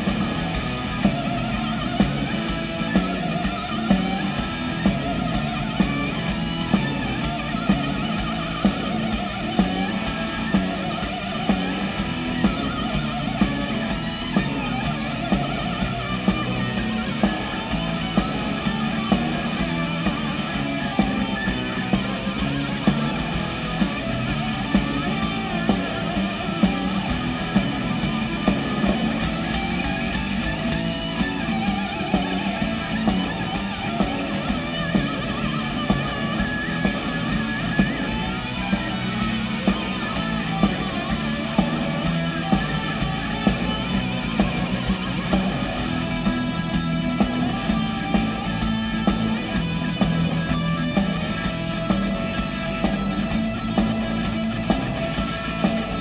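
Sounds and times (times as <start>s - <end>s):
bass: 0.0s - 56.0s
drums: 0.0s - 56.0s
electric guitar playing lead: 0.0s - 56.0s.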